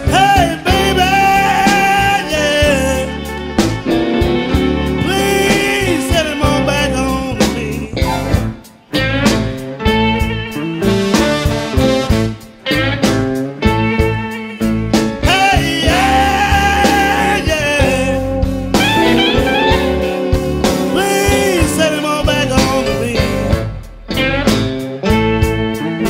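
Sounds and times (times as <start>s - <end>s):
electric blues band playing: 0.0s - 26.0s
lead guitar solo with bent notes: 0.0s - 26.0s.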